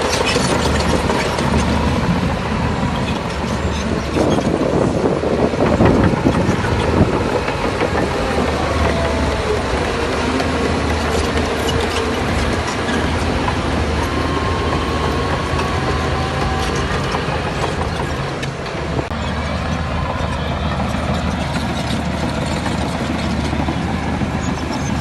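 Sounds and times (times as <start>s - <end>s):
bulldozer diesel engine running: 0.0s - 25.0s
steel tracks clanking and squeaking: 0.0s - 25.0s.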